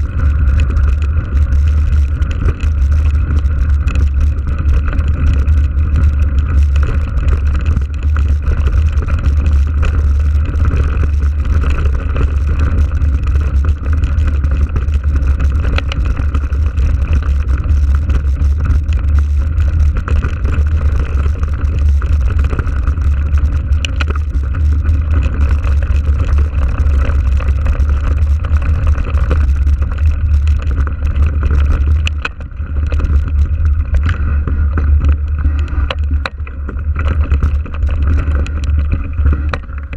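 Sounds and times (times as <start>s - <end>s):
bike tyres on dirt track: 0.0s - 39.9s
wind rumble on microphone: 0.0s - 39.9s.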